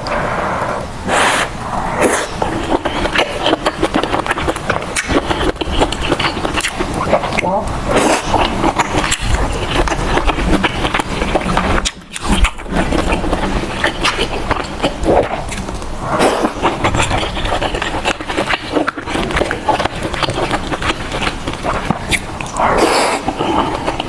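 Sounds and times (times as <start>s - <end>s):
person chewing and slurping: 0.0s - 24.0s
mouth clicks and smacks: 1.1s - 24.0s.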